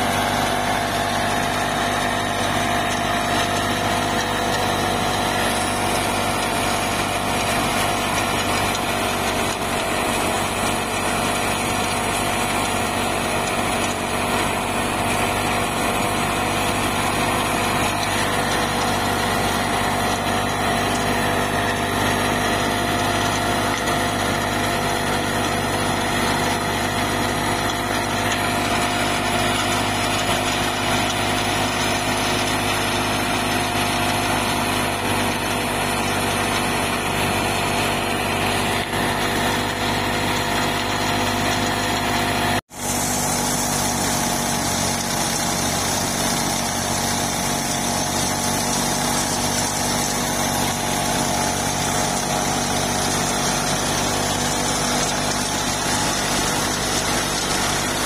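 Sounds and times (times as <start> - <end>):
thresher whirring drone: 0.0 - 58.0
tractor diesel engine running: 0.0 - 58.0.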